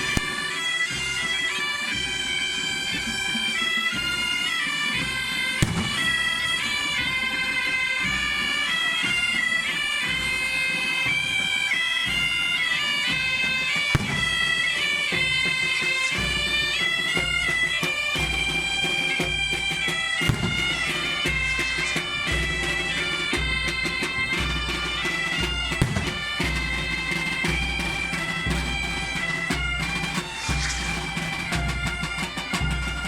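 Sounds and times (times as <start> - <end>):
bagpipe melody over drone: 0.0 - 33.0.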